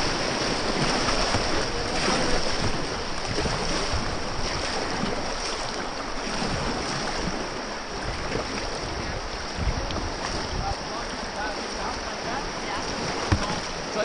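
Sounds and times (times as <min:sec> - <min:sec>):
wind rumble on microphone: 0:00.0 - 0:13.9
river whitewater rushing: 0:00.0 - 0:14.0.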